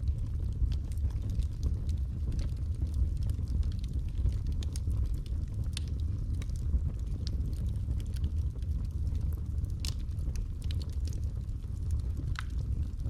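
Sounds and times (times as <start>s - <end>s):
fire crackling and popping: 0.0s - 13.0s
fire rumbling: 0.0s - 13.0s.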